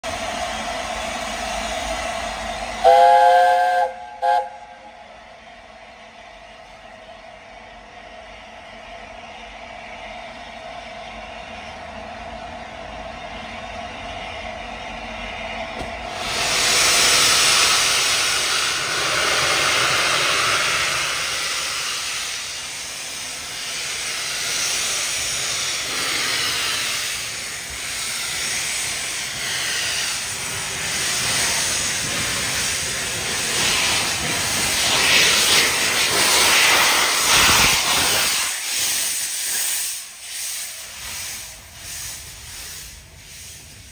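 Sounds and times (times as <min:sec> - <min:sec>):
steam locomotive hissing steam: 0:00.0 - 0:11.8, 0:12.4 - 0:43.9.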